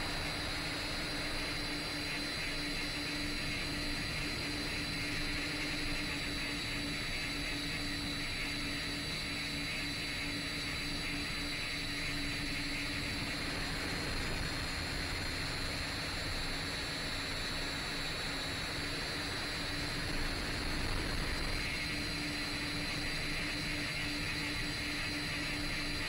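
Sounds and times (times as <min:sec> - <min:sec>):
quadcopter motors humming and whining: 0:00.0 - 0:26.0.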